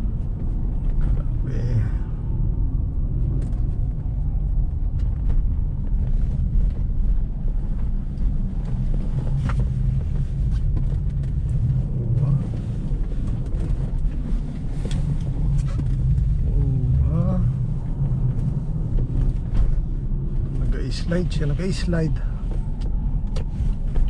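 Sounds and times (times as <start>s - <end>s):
car driving on snowy road: 0.0s - 24.0s.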